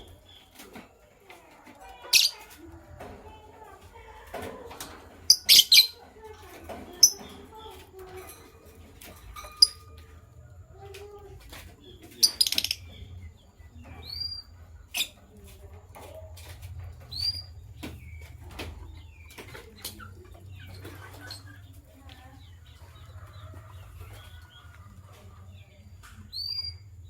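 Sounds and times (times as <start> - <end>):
lovebirds chirping: 1.8 - 27.0.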